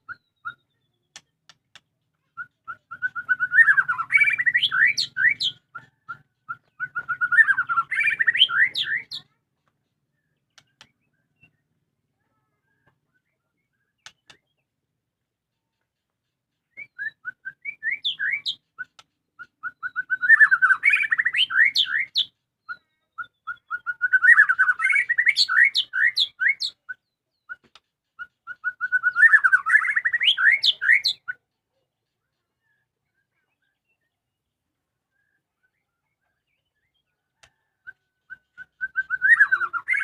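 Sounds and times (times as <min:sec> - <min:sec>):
songbird singing warbling phrases: 0:00.0 - 0:40.0.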